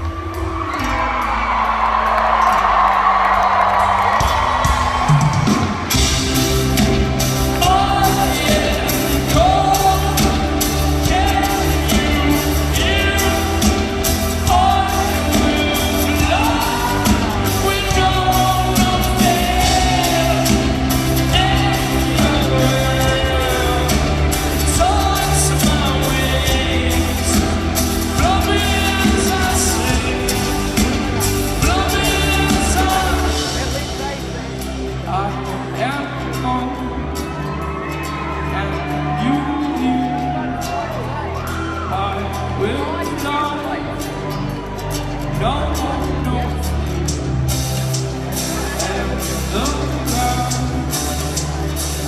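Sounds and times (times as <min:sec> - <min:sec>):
bass notes: 0:00.0 - 0:52.0
drums: 0:00.0 - 0:52.0
man singing: 0:06.5 - 0:47.3, 0:48.1 - 0:52.0.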